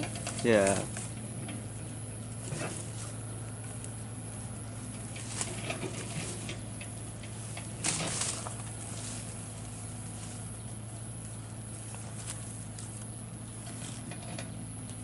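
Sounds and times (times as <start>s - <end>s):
digging machine engine humming: 0.0s - 15.0s.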